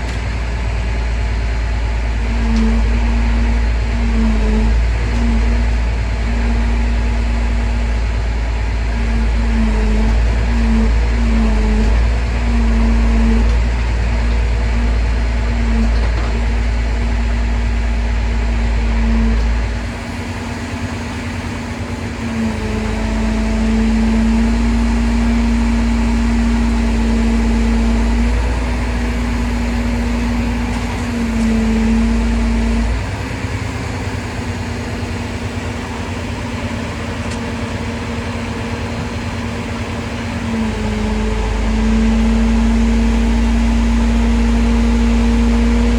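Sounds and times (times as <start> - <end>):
crane engine and hydraulics running: 0.0 - 45.9.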